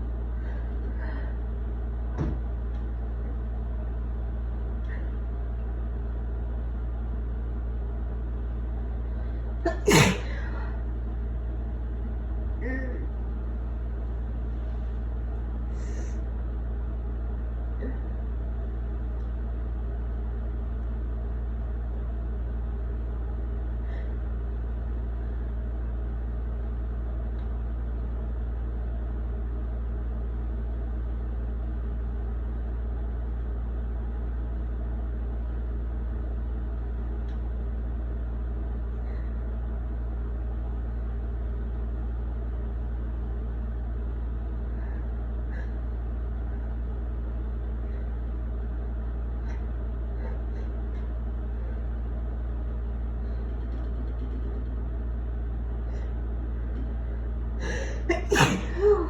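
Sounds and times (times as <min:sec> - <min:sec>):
low background hum: 0:00.0 - 0:59.0.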